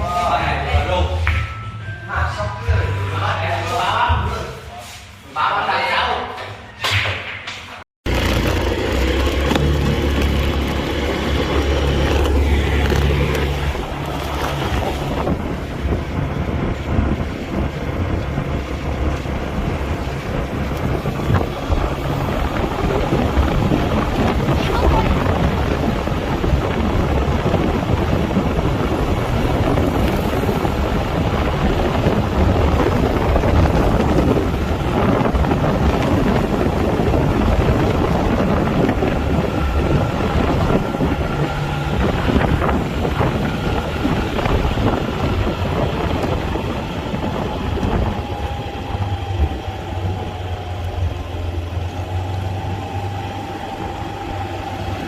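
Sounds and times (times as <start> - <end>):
vehicle rumbling: 8.0 - 55.0
wind noise on microphone: 8.1 - 55.0.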